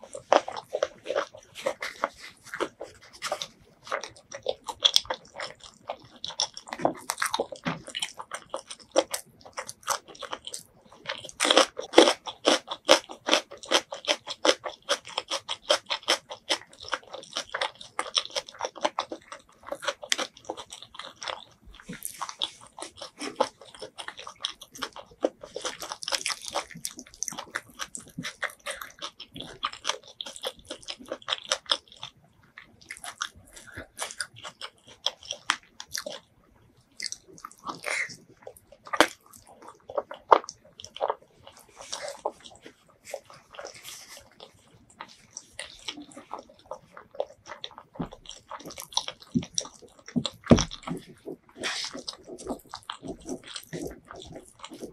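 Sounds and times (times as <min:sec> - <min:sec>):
close chewing and mouth clicks: 0:00.0 - 0:54.9.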